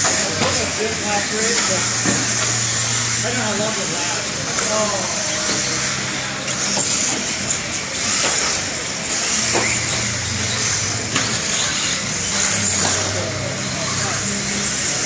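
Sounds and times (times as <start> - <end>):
rc truck motor whine: 0.0 - 15.0.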